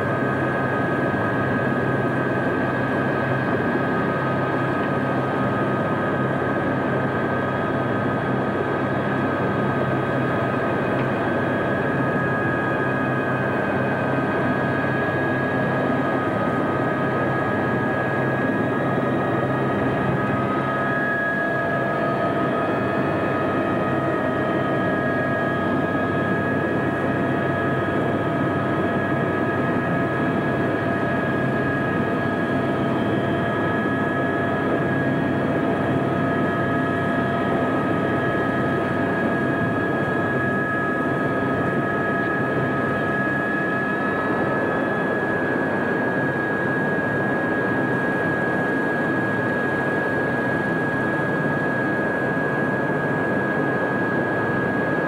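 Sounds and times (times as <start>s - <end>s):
engine and rotor rushing: 0.0s - 55.0s
helicopter engine whine: 0.0s - 55.0s.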